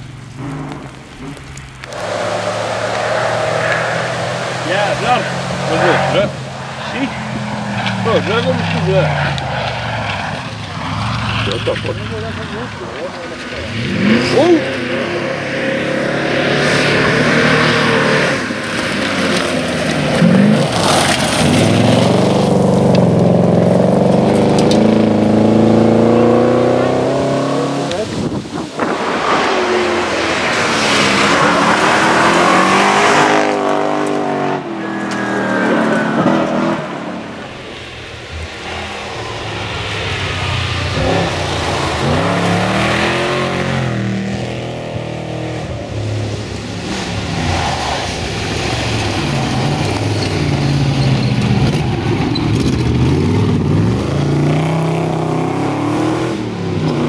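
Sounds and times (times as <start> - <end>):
tyres rushing on gravel: 0.0 - 15.2, 16.6 - 25.4, 27.8 - 54.7
rally car engines revving: 0.0 - 57.0.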